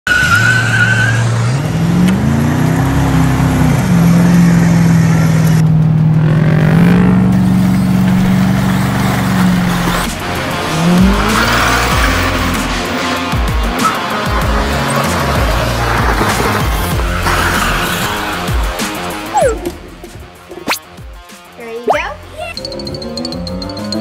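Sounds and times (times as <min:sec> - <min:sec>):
engine revving: 0:00.1 - 0:21.0.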